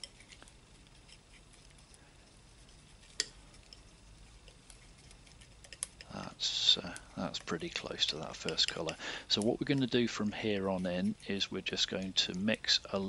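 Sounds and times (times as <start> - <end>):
palette knife tapping and scraping: 0.0 - 2.0, 2.6 - 6.2, 6.8 - 12.9.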